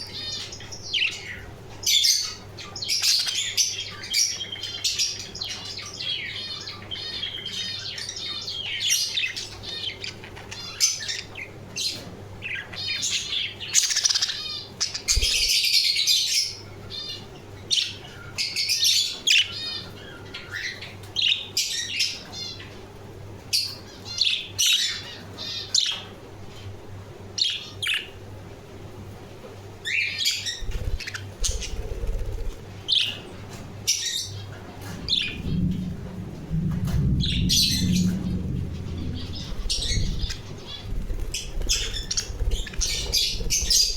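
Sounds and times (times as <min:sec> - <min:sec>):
budgerigars chirping and squawking: 0:00.0 - 0:22.8, 0:23.5 - 0:26.2, 0:27.4 - 0:28.2, 0:29.8 - 0:35.7, 0:37.2 - 0:43.9
faint low hum: 0:00.0 - 0:43.9.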